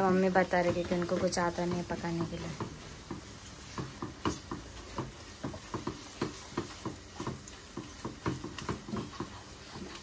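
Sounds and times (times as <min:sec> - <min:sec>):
low sizzle: 0:00.0 - 0:10.0
spatula scraping a pot: 0:00.6 - 0:10.0.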